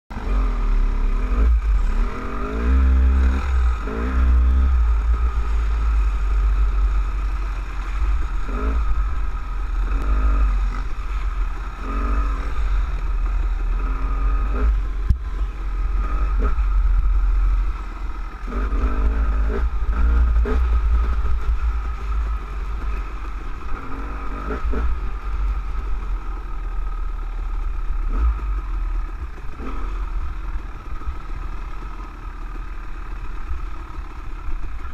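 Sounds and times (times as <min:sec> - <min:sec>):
dirt bike engine revving: 0:00.1 - 0:34.7.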